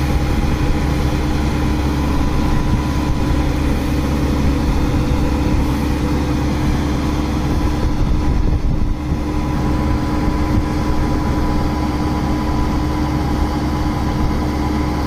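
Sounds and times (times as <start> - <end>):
diesel engines humming: 0.0 - 15.0.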